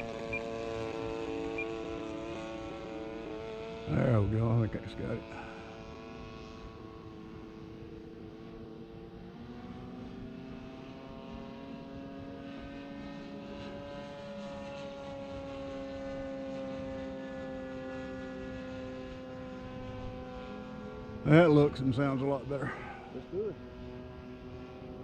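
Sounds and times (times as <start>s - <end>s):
model airplane motor droning: 0.0s - 25.0s.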